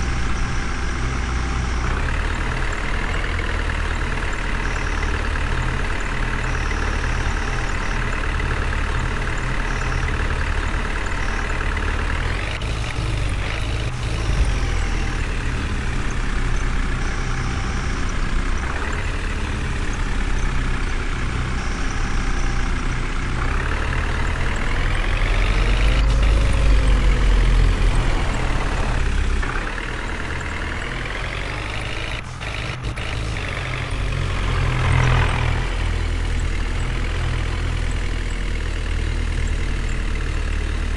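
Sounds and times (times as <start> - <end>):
heavy vehicle engine revving: 0.0 - 40.9.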